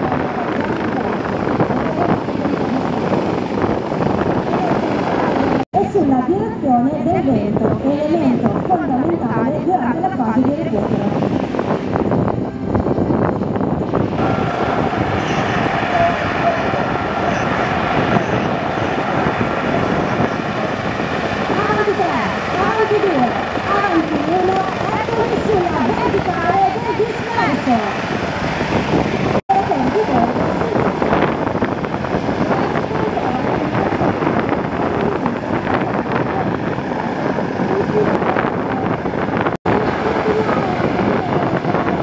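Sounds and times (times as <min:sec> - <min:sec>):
helicopter rotor and turbine: 0:00.0 - 0:42.0
high steady whine: 0:00.0 - 0:42.0.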